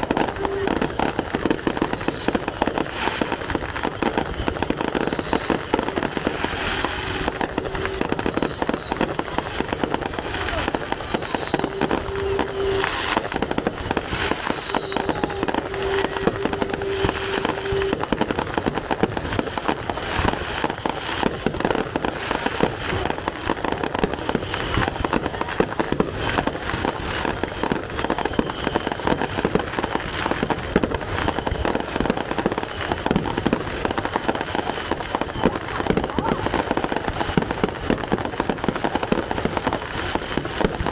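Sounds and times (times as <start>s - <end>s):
fireworks booming and crackling: 0.0s - 40.9s.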